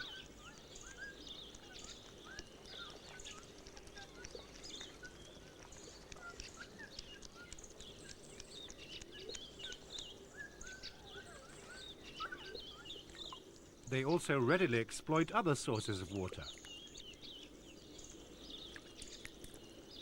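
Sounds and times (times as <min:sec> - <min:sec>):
outdoor ambience hiss: 0:00.0 - 0:20.0
small birds chirping: 0:00.0 - 0:20.0.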